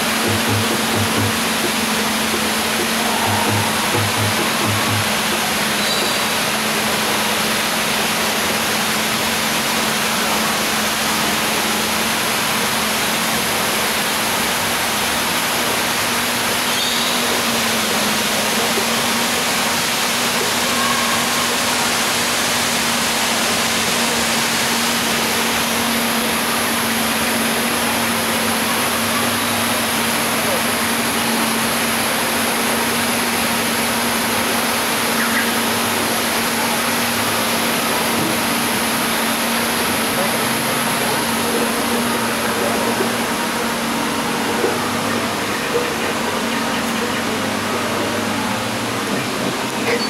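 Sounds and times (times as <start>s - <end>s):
low boat hum: 0.0s - 50.0s
rushing water: 0.0s - 50.0s.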